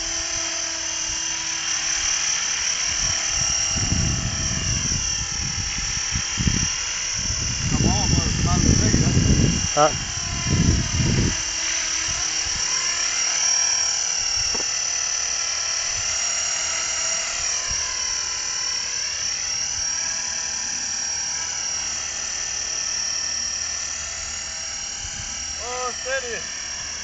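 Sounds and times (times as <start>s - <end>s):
model helicopter rotor whine: 0.0s - 27.0s.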